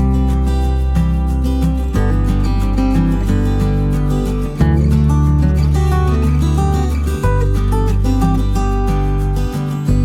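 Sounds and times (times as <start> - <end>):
acoustic guitar: 0.0 - 10.0
steady bass: 0.0 - 10.0.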